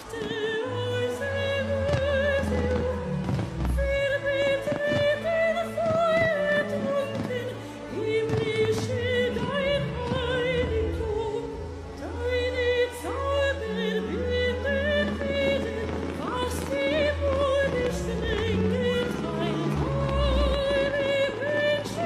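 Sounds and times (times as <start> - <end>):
instrumental backing music: 0.0 - 22.0
woman singing operatically: 0.0 - 22.0.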